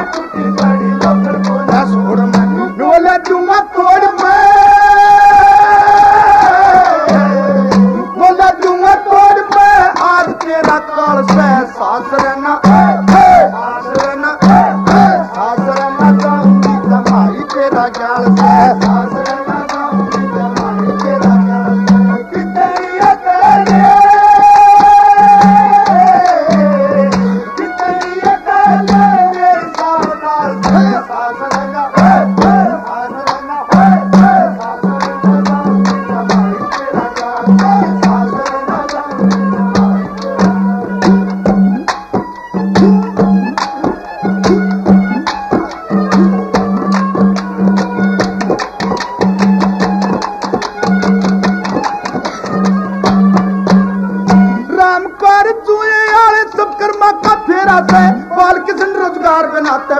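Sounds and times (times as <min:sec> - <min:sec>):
hand drum fast beat: 0:00.0 - 0:55.0, 0:56.4 - 0:59.8
folk melody line: 0:00.0 - 0:59.9.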